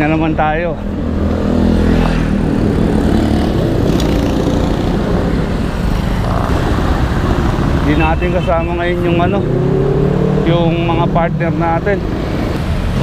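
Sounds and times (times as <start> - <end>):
engine hum: 0.0 - 13.0
traffic rumble: 0.0 - 13.0.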